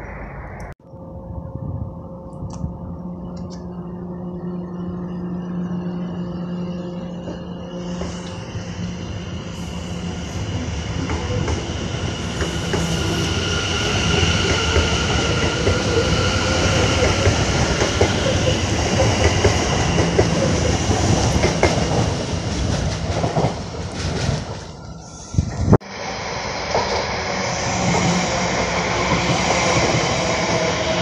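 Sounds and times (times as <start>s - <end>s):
electric train running: 1.3s - 31.0s.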